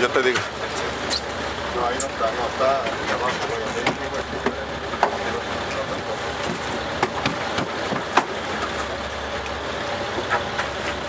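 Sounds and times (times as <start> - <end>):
boat engine rumble: 0.0 - 11.0
wind: 0.0 - 11.0.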